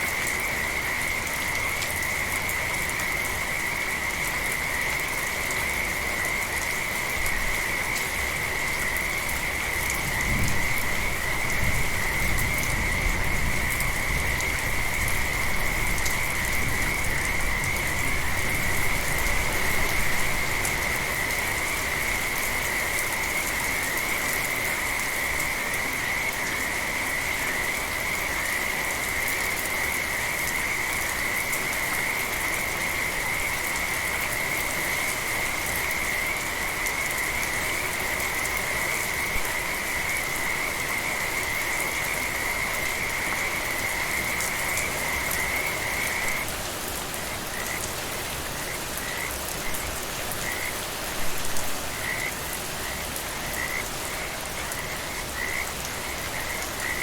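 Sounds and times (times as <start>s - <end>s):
steady rain falling: 0.0s - 57.0s
frogs calling: 0.2s - 57.0s.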